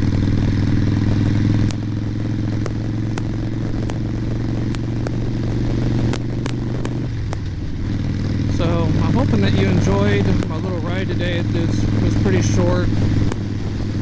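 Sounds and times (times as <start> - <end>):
microphone clicks and pops: 0.0 - 14.0
motorcycle engine running: 0.0 - 14.0.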